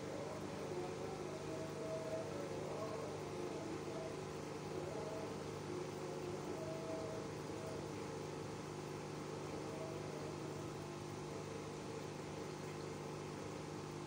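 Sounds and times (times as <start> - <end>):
aquarium pump humming: 0.0 - 14.0.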